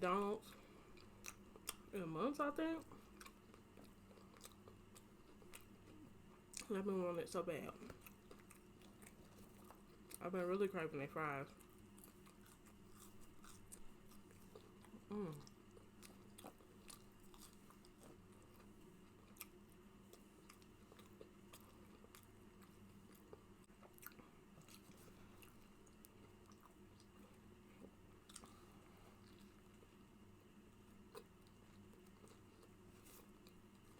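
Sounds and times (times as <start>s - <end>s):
faint steady hum: 0.0s - 33.9s
chewing and lip smacking: 0.5s - 1.9s, 2.9s - 6.7s, 7.8s - 10.2s, 11.5s - 33.9s.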